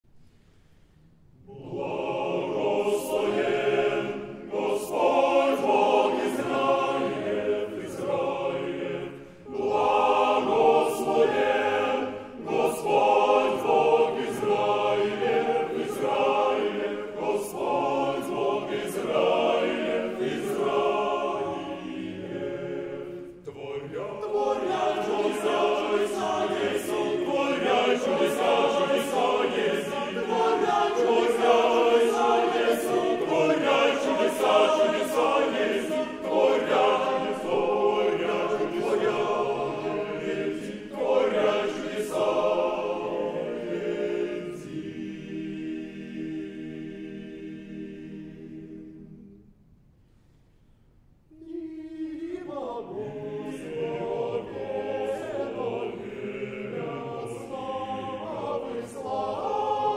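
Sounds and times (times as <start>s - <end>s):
men's choir singing a cappella: 1.4s - 49.4s, 51.3s - 59.9s.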